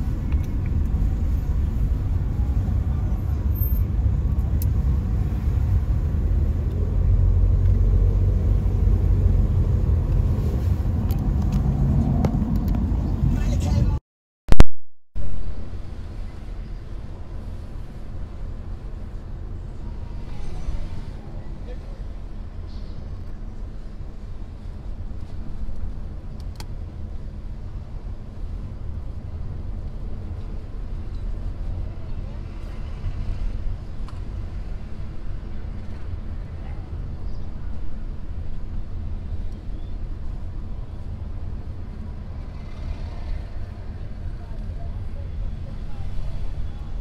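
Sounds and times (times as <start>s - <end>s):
car driving low rumble: 0.0s - 14.0s, 15.2s - 47.0s.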